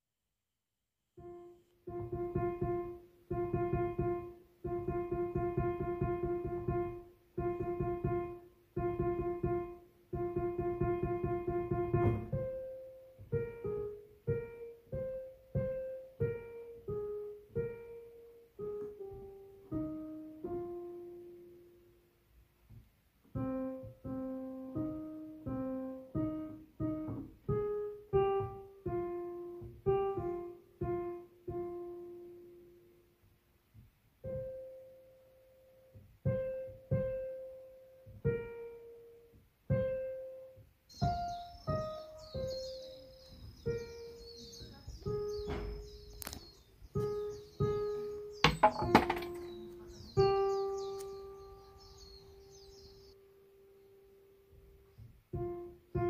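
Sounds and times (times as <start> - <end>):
solo piano music: 1.2 - 56.0.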